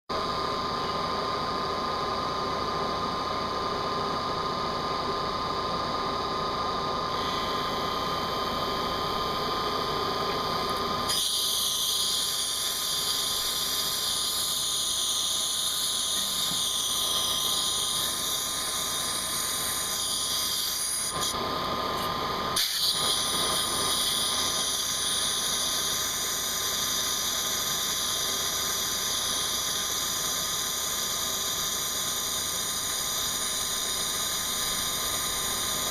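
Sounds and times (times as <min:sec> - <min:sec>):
milling machine spindle whine: 0:00.1 - 0:35.9
bright high hiss: 0:07.2 - 0:35.9.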